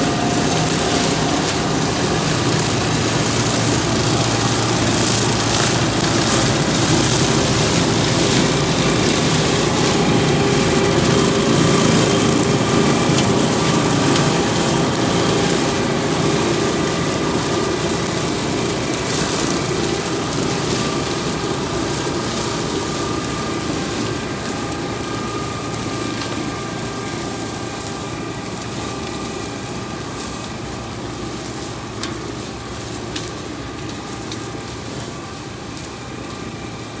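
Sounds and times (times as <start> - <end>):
cutting machine motor humming: 0.0 - 37.0.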